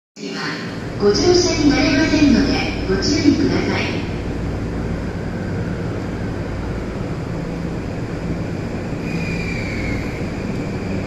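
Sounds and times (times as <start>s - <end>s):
electric train rumbling: 0.3s - 11.0s.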